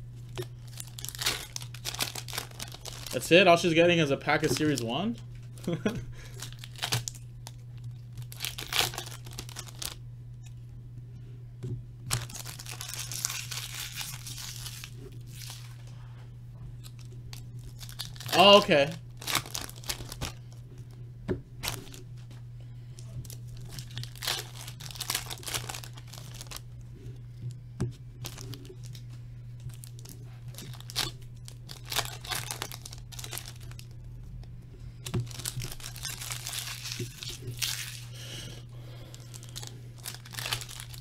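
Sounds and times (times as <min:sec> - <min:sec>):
steady low hum: 0:00.0 - 0:41.0
card wrappers ripping and rustling: 0:00.3 - 0:10.0, 0:12.1 - 0:15.9, 0:16.8 - 0:20.9, 0:21.6 - 0:22.0, 0:23.2 - 0:26.7, 0:28.2 - 0:34.0, 0:35.0 - 0:41.0.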